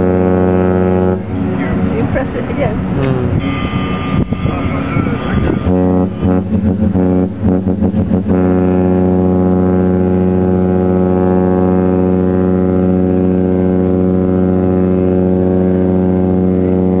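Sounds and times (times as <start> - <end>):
ship horn blast: 0.0 - 17.0.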